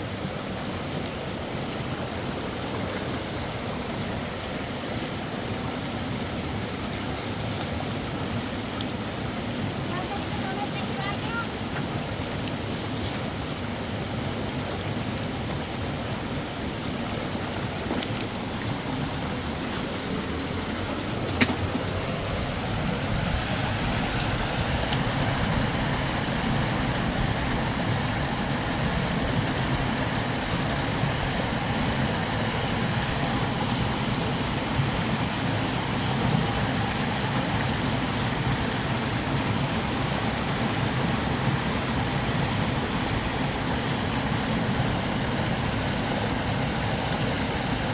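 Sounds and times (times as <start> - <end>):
flowing river water: 0.0 - 47.9.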